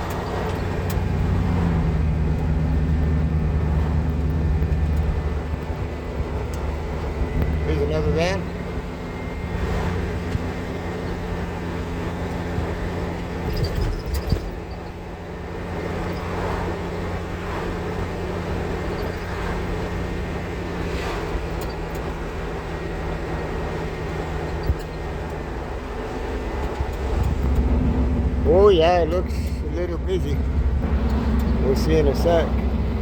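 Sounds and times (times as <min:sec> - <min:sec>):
van engine and road noise: 0:00.0 - 0:33.0.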